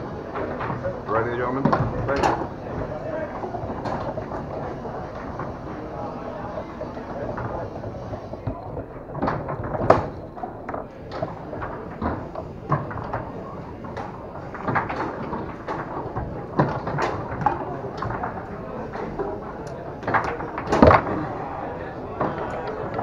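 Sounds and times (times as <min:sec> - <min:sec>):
foosball rods sliding and knocking: 0:00.0 - 0:23.0
ball clacking off plastic men: 0:00.2 - 0:23.0.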